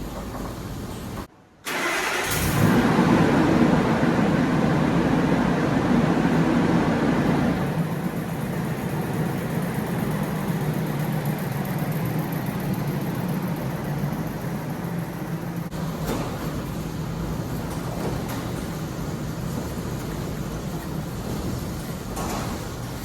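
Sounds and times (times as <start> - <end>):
engine running steadily: 2.0 - 23.0.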